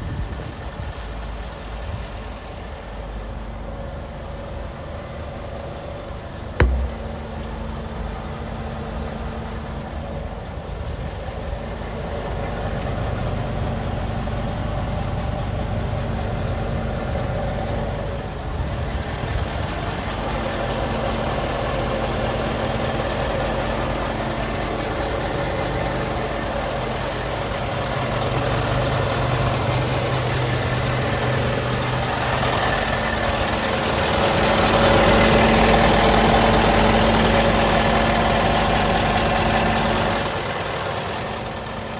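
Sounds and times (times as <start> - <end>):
diesel truck engine idling: 0.6 - 41.9.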